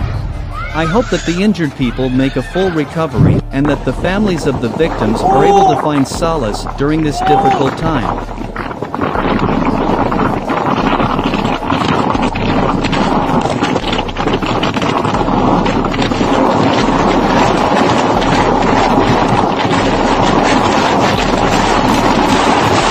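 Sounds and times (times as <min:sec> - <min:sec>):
steady rushing noise with crackles: 0:03.0 - 0:22.9.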